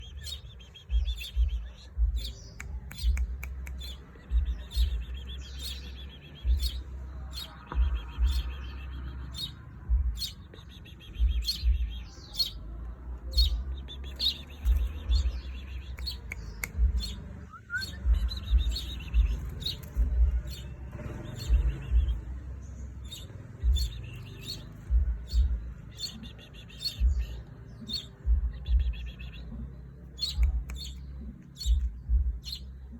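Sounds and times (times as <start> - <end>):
soft low thuds: 0.0 - 5.8, 6.4 - 7.0, 7.6 - 8.6, 9.8 - 10.4, 11.2 - 12.6, 13.3 - 26.2, 26.8 - 32.9
chicks chirping: 0.0 - 32.9.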